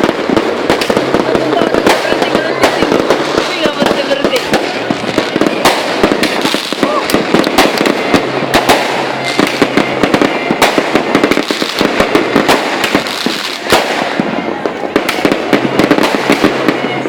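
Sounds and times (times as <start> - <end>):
fireworks bangs and crackles: 0.0 - 17.0
loud fireworks reports: 0.0 - 17.0.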